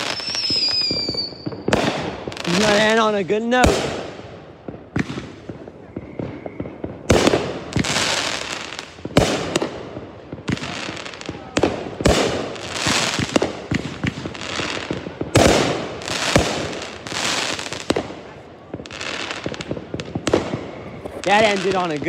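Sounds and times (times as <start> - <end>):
fireworks bursting: 0.0 - 22.0
fireworks crackling: 0.0 - 22.0.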